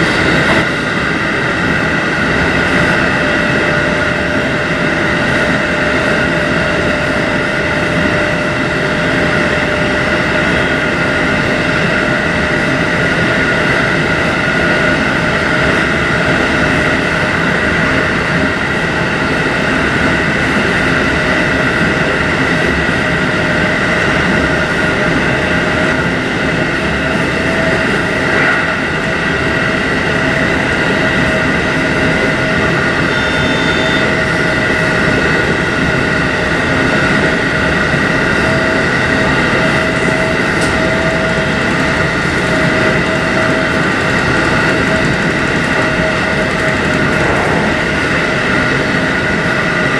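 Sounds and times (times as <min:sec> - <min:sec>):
train rumbling with steady whine: 0:00.0 - 0:49.9.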